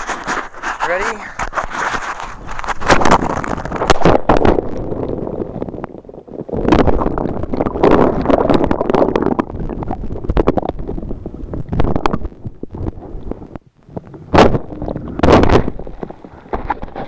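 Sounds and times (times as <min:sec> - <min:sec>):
muffled underwater splashing: 0:00.0 - 0:17.0.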